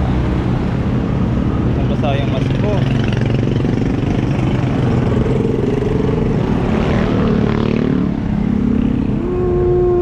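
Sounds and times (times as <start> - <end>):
vehicle engines running: 0.0 - 10.0
vehicle passing: 0.0 - 10.0.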